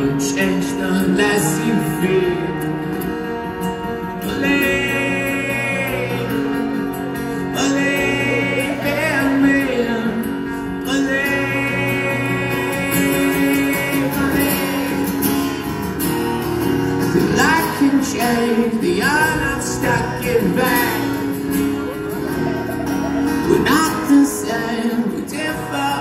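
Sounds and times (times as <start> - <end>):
long-held melody line: 0.0 - 26.0
strummed acoustic guitars: 0.0 - 26.0.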